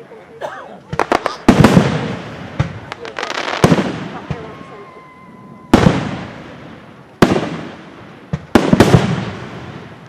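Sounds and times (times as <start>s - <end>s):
fireworks bangs with rolling echo: 0.9s - 10.0s.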